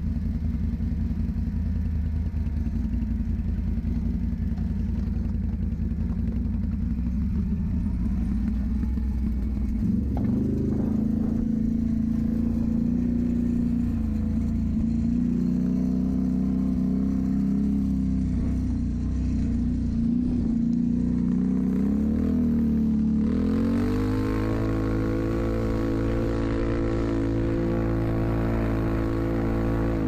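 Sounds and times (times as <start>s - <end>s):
atv engine running under throttle: 0.0s - 30.0s.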